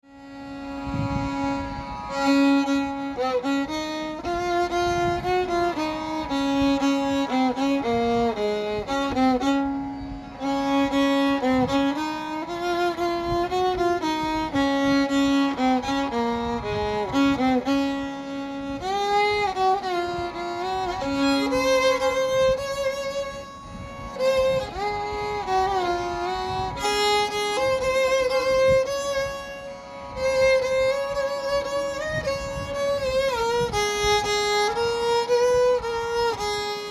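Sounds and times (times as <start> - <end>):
solo violin melody: 0.0 - 36.9.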